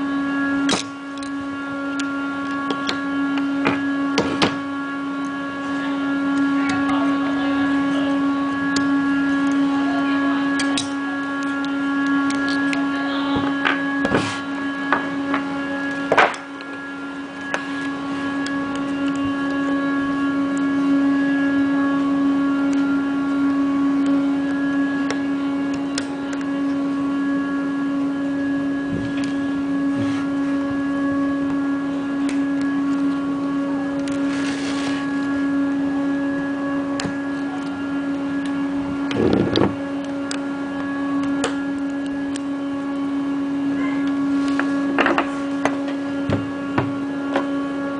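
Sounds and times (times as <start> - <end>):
steady hum: 0.0 - 47.9.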